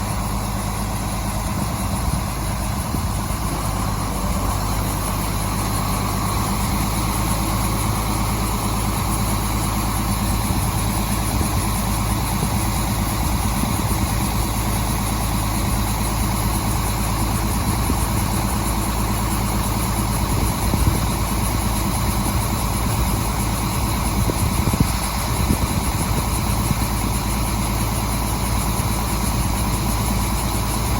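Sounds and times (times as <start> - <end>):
harvest machinery engine drone: 0.0 - 30.9.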